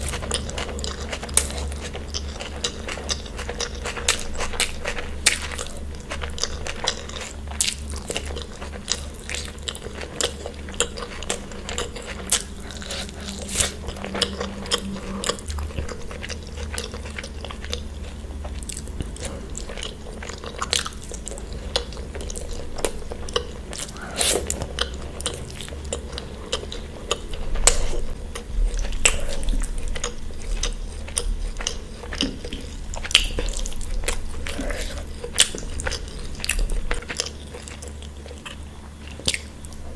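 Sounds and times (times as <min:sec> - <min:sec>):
crunching and wet chewing: 0:00.0 - 0:39.9
low hum: 0:00.0 - 0:39.9.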